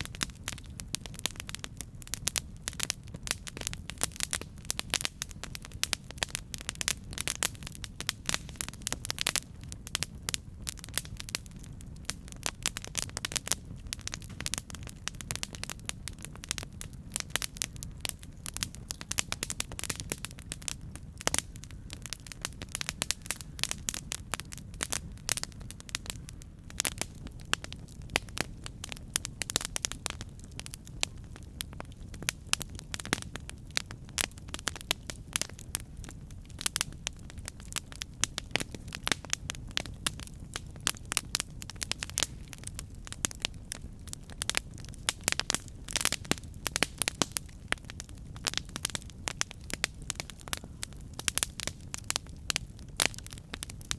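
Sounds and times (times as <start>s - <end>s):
burning wood rumble: 0.0s - 53.9s
campfire pops and snaps: 0.0s - 53.9s.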